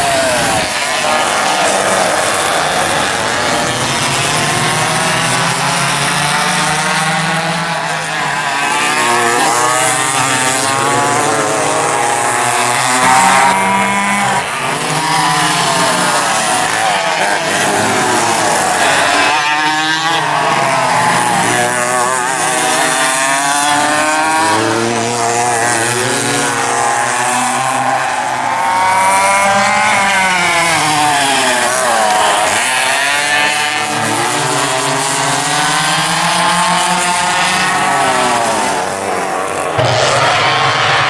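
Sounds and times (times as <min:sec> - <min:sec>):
racing kart engines revving: 0:00.0 - 0:41.0.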